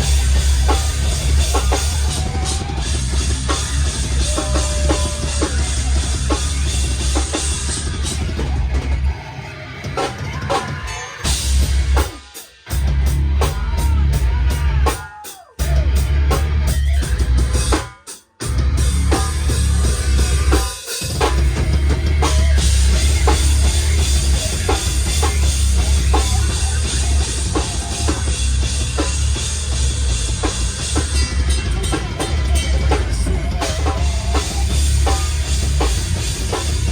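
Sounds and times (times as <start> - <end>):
heavy bass drum: 0.0 - 9.2, 10.1 - 36.9
hardcore band playing live: 0.0 - 36.9.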